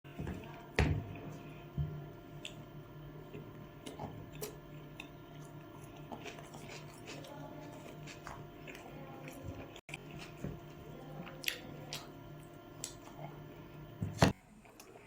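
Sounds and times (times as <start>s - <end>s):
steady low hum: 0.1s - 15.0s
person chewing food: 2.3s - 15.0s.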